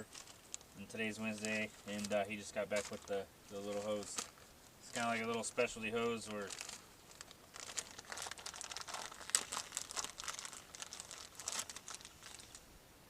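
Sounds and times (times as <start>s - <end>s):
hose crinkling and rustling: 0.0s - 12.6s.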